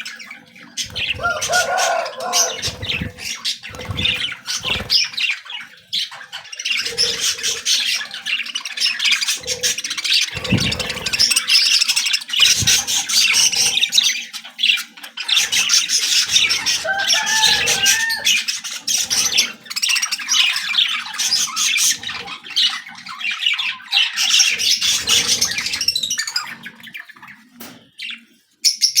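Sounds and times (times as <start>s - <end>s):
lovebirds chattering and squawking: 0.0s - 29.0s.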